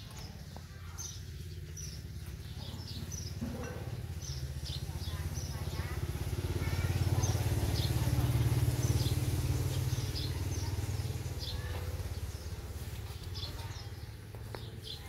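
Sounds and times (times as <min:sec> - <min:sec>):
motorcycle engine passing: 0:01.0 - 0:15.0.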